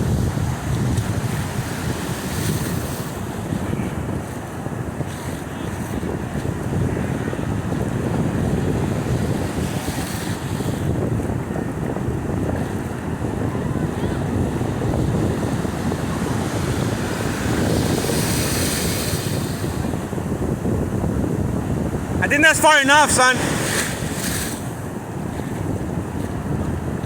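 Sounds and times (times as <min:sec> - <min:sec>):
ocean surf: 0:00.0 - 0:27.0
wind buffeting microphone: 0:00.0 - 0:27.0.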